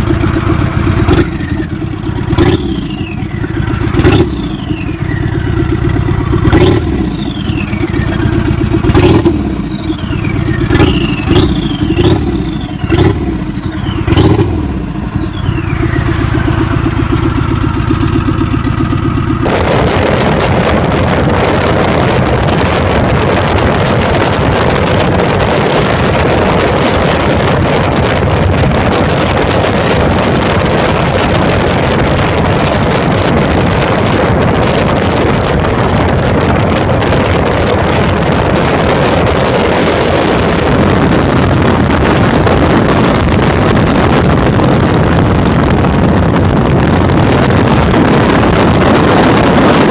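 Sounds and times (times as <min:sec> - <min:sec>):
loud rushing noise: 0:00.0 - 0:49.9
motorcycle engine revving: 0:00.0 - 0:49.9.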